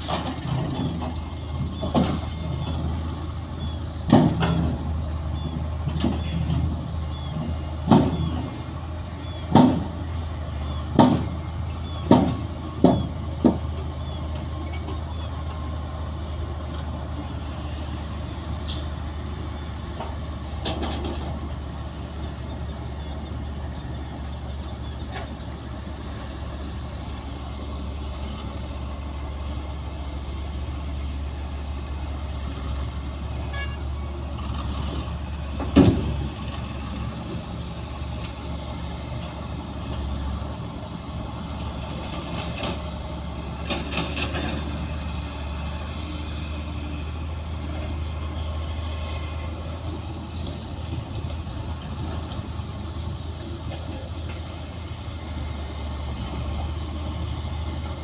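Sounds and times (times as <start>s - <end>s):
diesel machinery droning: 0.0s - 58.0s.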